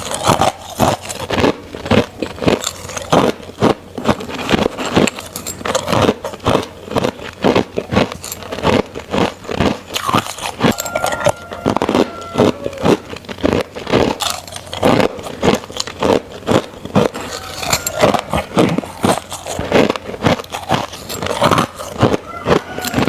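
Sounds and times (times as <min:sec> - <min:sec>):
crunching ice with teeth: 0:00.0 - 0:23.0.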